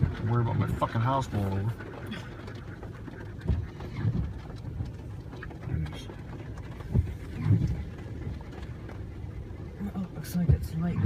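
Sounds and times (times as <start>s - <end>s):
rain: 0.0s - 11.0s
wind: 0.0s - 11.0s.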